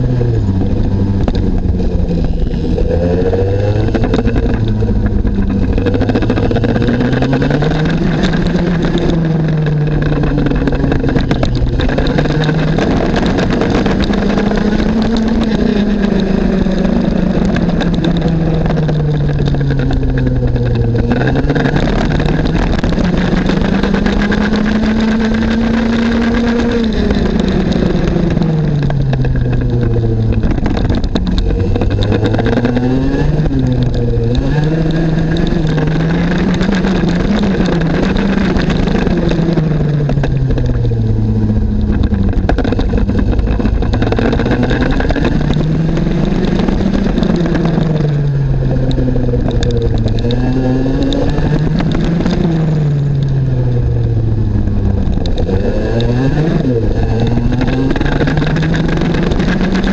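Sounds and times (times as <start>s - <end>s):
kart two-stroke engine revving: 0.0s - 59.9s.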